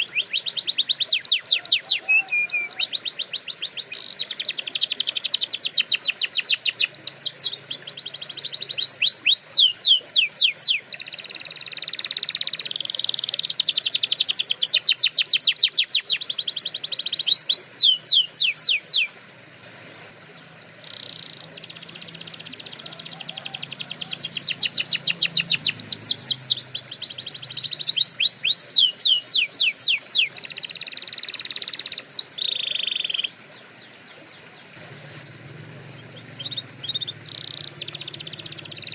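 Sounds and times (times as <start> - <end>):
canary singing trills: 0.0 - 19.2, 20.3 - 38.9.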